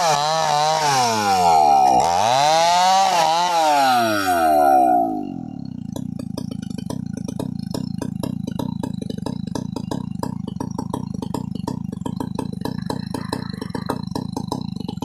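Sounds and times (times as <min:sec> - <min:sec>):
chainsaw idling: 0:00.0 - 0:15.0.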